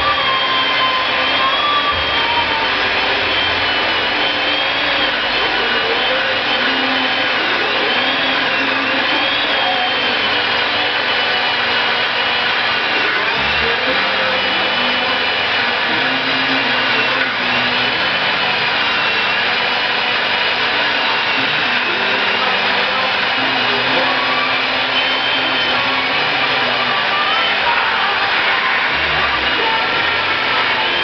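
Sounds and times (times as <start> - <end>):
electric chainsaw cutting log: 0.0 - 31.0.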